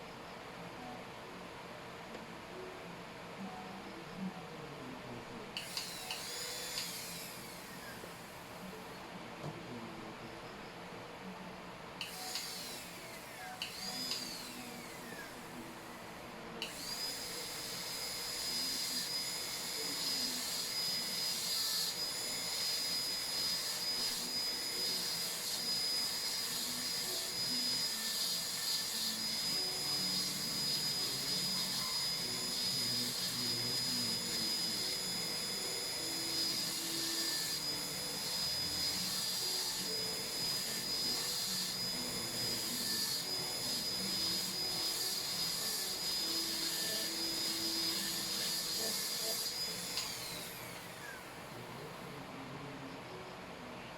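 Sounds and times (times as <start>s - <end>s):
dental drill high whine: 5.6s - 9.0s, 12.0s - 52.1s.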